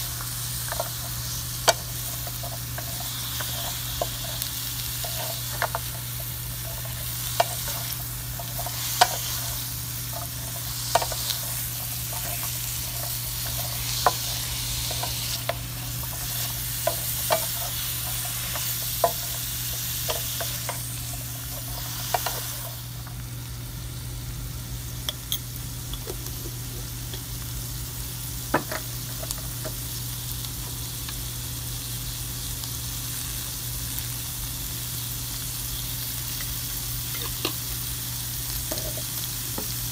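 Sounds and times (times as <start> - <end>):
vegetables sizzling in a hot pan: 0.0 - 39.9.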